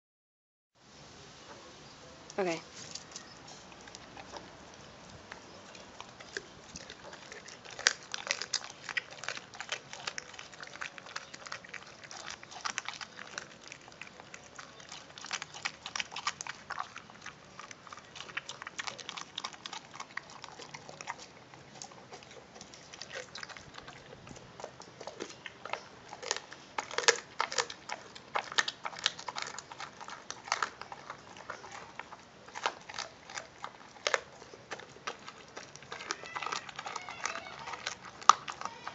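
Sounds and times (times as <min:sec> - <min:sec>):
dog chewing and crunching bone: 0:02.5 - 0:38.9.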